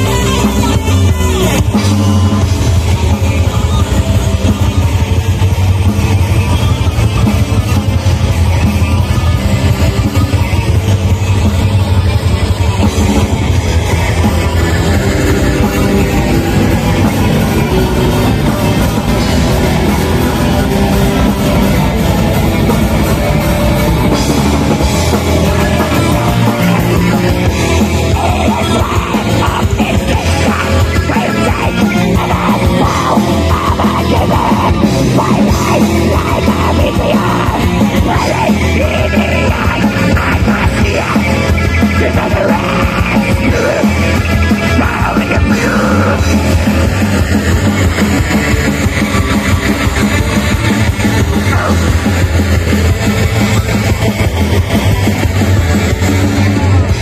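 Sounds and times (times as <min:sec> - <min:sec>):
distorted guitars: 0:00.0 - 0:57.0
drum kit: 0:00.0 - 0:57.0.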